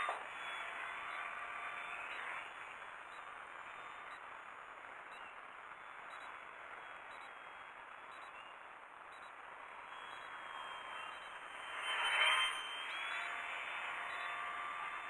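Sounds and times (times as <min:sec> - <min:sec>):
distant model plane motor whirr: 0:00.0 - 0:15.0.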